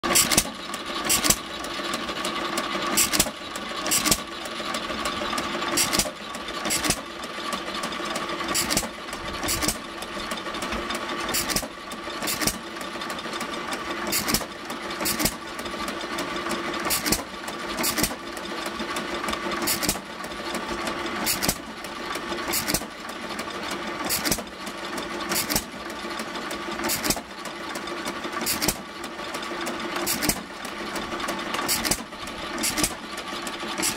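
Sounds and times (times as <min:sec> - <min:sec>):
grist mill whirring: 0:00.0 - 0:33.9.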